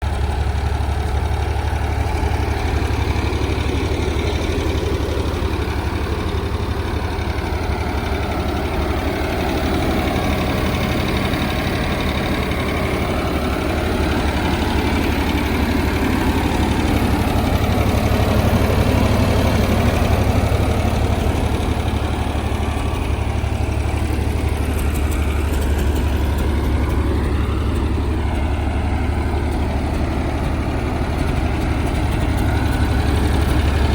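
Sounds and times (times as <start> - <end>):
tractor engine idling: 0.0 - 33.9.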